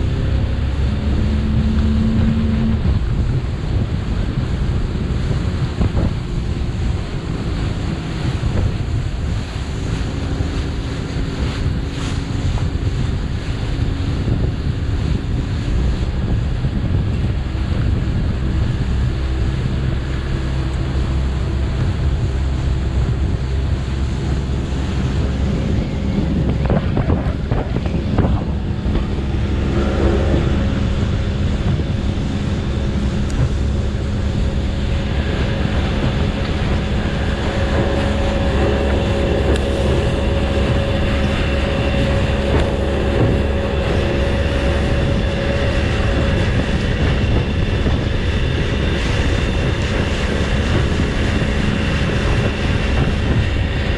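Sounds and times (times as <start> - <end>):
motorboat engine running: 0.0 - 53.9
water rushing past hull: 0.0 - 53.9
wind buffeting microphone: 0.0 - 53.9.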